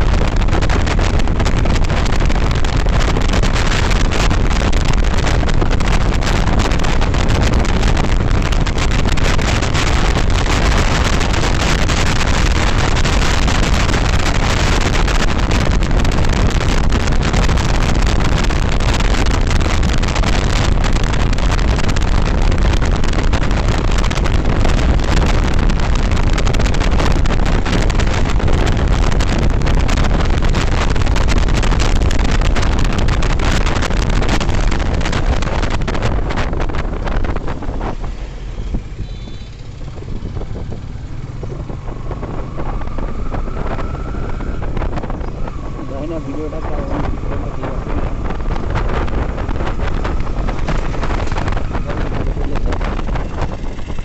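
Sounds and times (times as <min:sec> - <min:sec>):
motorcycle engine and road noise: 0:00.0 - 0:54.0
wind rushing over microphone: 0:00.0 - 0:54.0.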